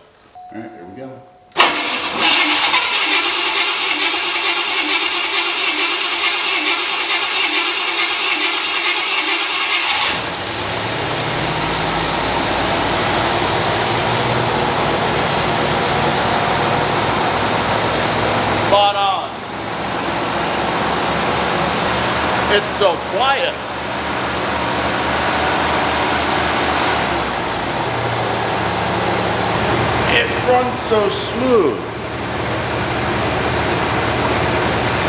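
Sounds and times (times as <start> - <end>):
car engine fast idle: 1.6 - 35.0.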